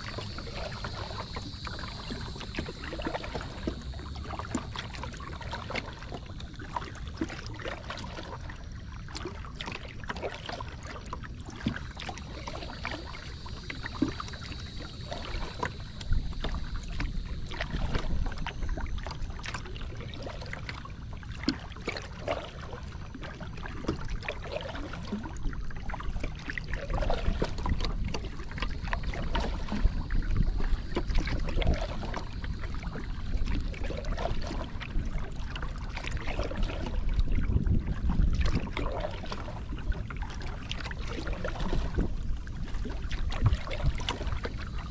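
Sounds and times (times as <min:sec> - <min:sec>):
waves lapping against kayak hull: 0:00.0 - 0:44.9
wind rumble on microphone: 0:00.0 - 0:44.9.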